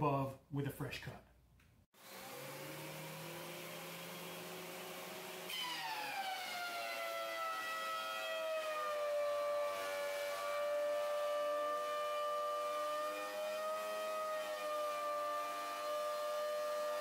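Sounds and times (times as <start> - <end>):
shop vac running: 2.0 - 17.0
thickness planer motor whining: 2.0 - 17.0.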